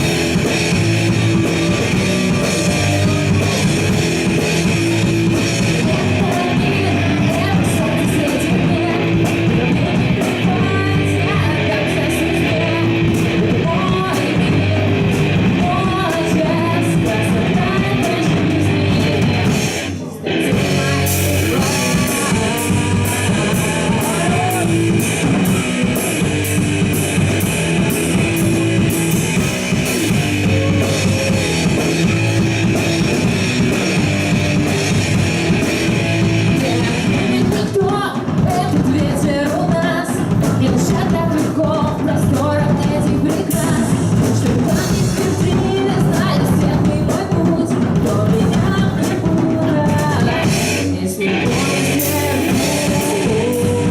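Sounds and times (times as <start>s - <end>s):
live rock band playing: 0.0s - 53.9s
person singing: 0.0s - 53.9s.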